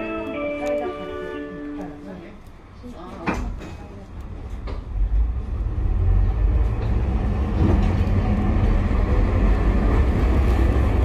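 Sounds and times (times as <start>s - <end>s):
streetcar low drone: 0.0s - 2.8s, 3.5s - 11.0s.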